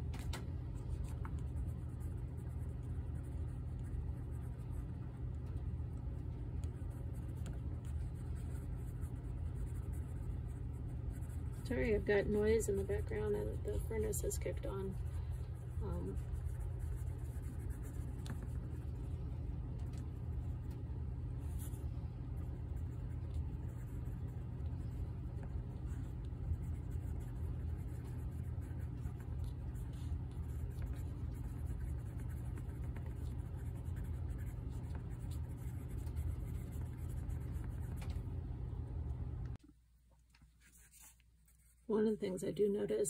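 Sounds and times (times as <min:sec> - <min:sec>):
furnace low rumble: 0:00.0 - 0:43.0
pencil scratching on paper: 0:00.8 - 0:19.2, 0:19.9 - 0:38.2, 0:40.6 - 0:42.0.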